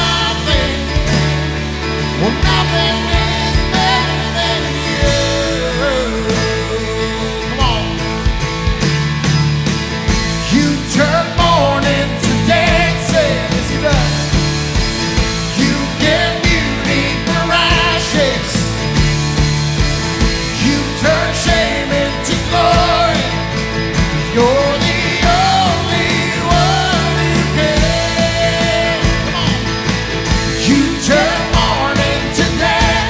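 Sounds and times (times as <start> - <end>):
man singing lead: 0.0 - 8.4, 10.4 - 14.6, 15.3 - 19.0, 20.3 - 33.0
acoustic guitar: 0.0 - 33.0
electric guitar: 0.0 - 33.0
electronic drum kit: 0.0 - 33.0
keyboard: 0.0 - 33.0.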